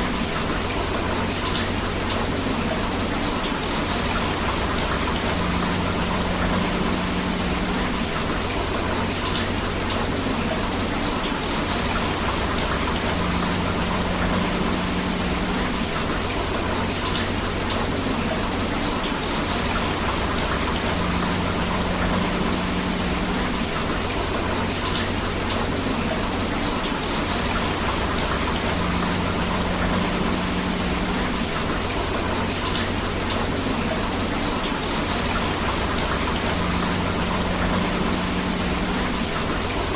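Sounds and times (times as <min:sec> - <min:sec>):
rushing river water: 0:00.0 - 0:39.9
steady rain: 0:00.0 - 0:39.9.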